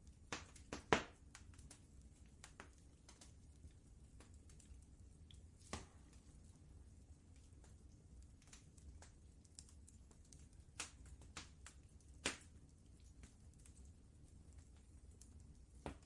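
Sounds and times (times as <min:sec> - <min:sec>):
wood fire crackling: 0:00.0 - 0:16.0
low steady rumble: 0:01.2 - 0:15.9.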